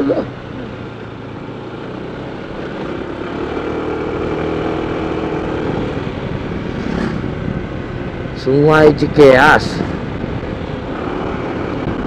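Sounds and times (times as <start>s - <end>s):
scooter engine drone: 0.0s - 12.0s
wind and road rush: 0.0s - 12.0s.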